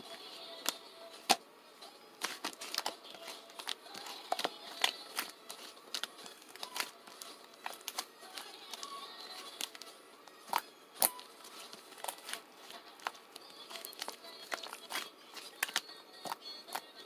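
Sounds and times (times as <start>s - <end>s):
faint rustling: 2.2s - 16.9s.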